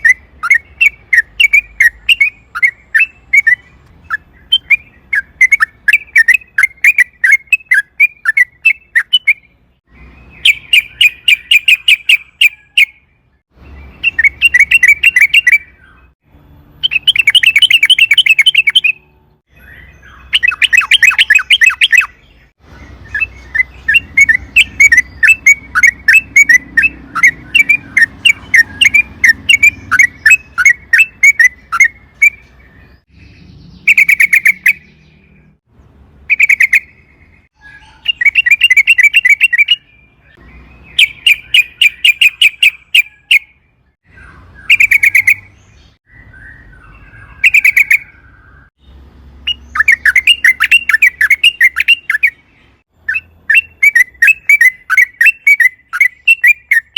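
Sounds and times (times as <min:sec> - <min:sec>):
bulbul chirping song: 0:00.0 - 0:56.9.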